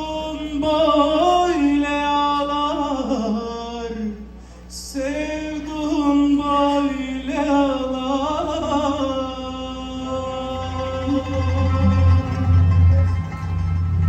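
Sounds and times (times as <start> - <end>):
person singing folk song: 0.0 - 12.9.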